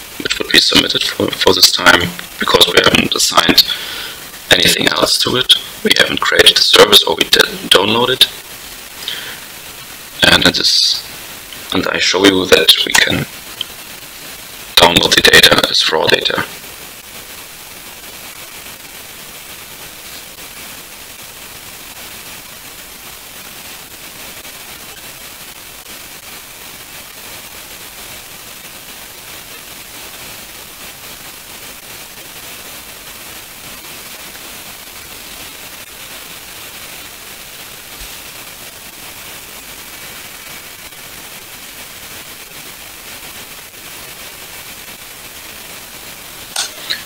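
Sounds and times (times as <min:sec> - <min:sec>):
recording hiss: 0:00.0 - 0:47.0.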